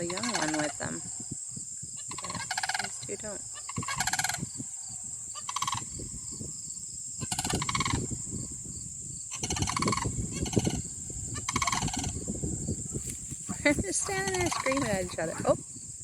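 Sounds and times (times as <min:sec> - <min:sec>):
cranes calling: 0:00.0 - 0:06.4, 0:07.2 - 0:08.2, 0:09.3 - 0:15.8.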